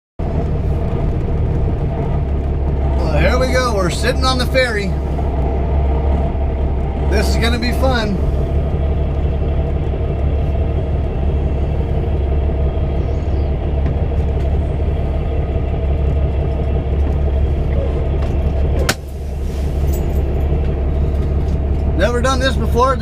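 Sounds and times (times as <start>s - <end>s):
diesel engine rumble: 0.2s - 23.0s.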